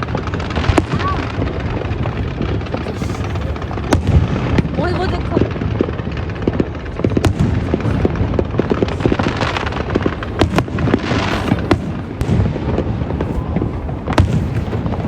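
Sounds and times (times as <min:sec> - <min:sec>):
fireworks booming and cracking: 0:00.0 - 0:15.0
fireworks hissing and crackling: 0:00.0 - 0:15.0.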